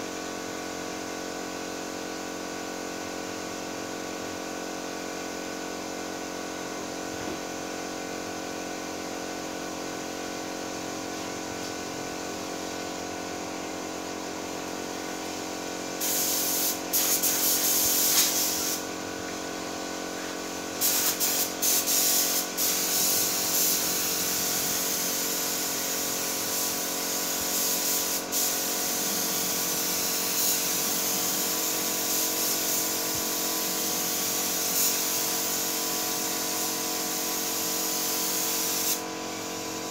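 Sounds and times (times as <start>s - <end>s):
paint spray gun hissing: 7.3s - 39.9s.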